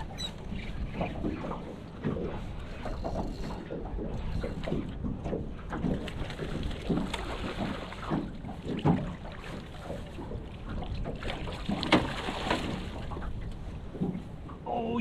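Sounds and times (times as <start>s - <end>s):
water splashing against boat: 0.0s - 15.0s.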